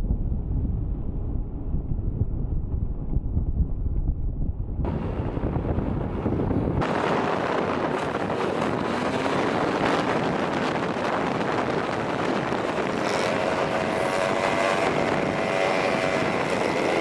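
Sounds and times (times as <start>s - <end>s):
low road and engine rumble: 0.0s - 17.0s
wind buffeting microphone: 0.0s - 17.0s.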